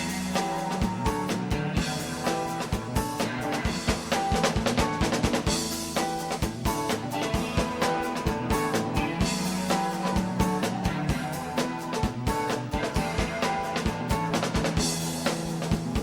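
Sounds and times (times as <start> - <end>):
drum kit beating: 0.0 - 16.0.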